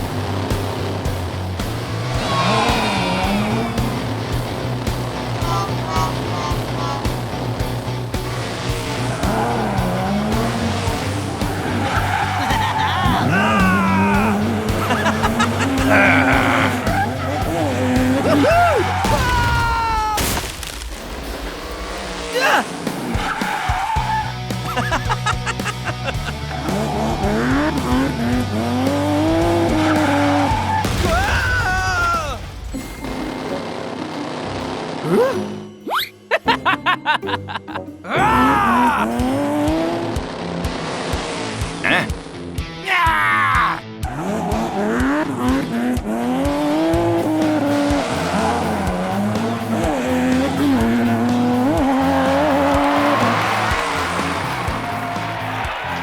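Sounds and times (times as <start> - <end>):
cartoon engine revving: 0.0 - 20.2, 22.2 - 31.4, 38.1 - 42.3, 43.6 - 55.8
background music: 0.0 - 56.0.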